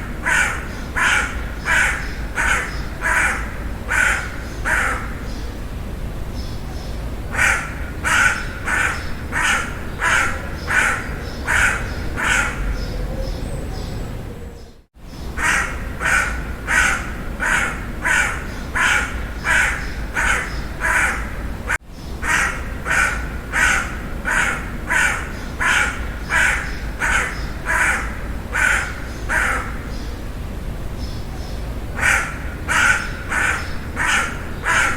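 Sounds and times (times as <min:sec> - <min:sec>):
crow cawing: 0:00.0 - 0:05.3, 0:07.3 - 0:12.7, 0:15.4 - 0:30.0, 0:32.0 - 0:34.9.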